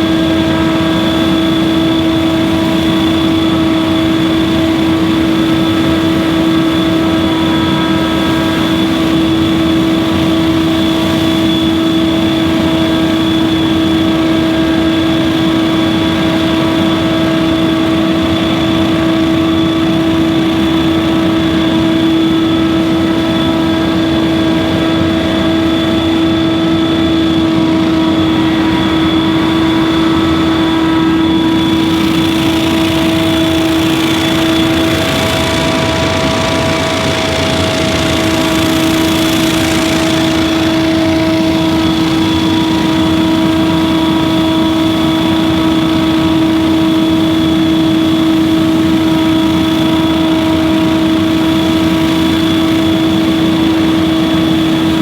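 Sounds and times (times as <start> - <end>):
blower fan rushing: 0.0 - 55.0
leaf blower engine running: 0.0 - 55.0.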